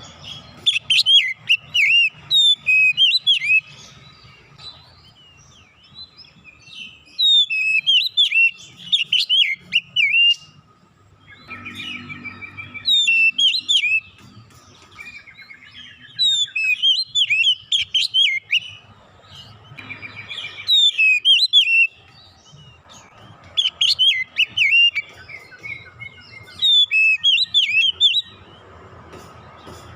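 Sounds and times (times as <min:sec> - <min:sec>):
bird singing whistles and chirps: 0:00.0 - 0:28.6.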